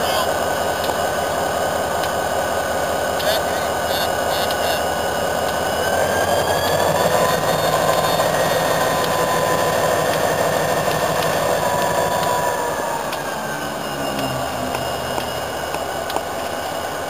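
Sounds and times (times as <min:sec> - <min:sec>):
diesel locomotive engine running: 0:00.0 - 0:17.0
high whine: 0:00.0 - 0:17.0.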